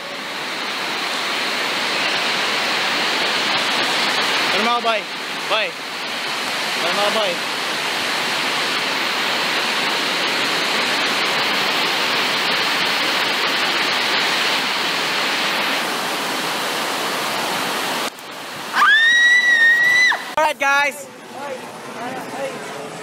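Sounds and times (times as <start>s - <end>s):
loud rushing hiss: 0.0s - 20.4s.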